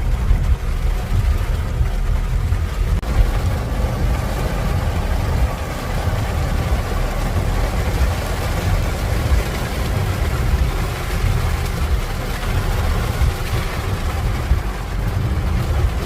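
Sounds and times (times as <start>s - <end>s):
rain hissing: 0.0s - 16.0s
steady low rumble: 0.0s - 16.0s.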